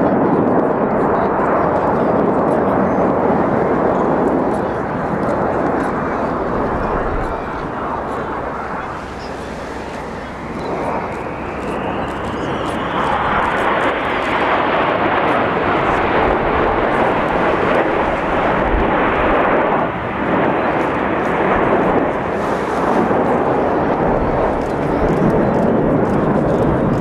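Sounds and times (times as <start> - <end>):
jets roaring overhead: 0.0 - 27.0.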